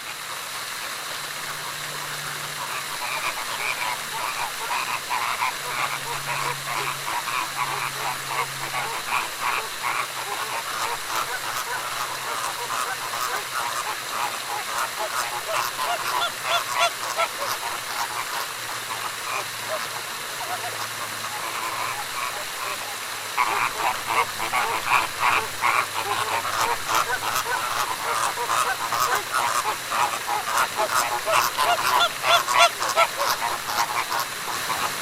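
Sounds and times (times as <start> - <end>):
flamingos honking and cackling: 0.0 - 35.0.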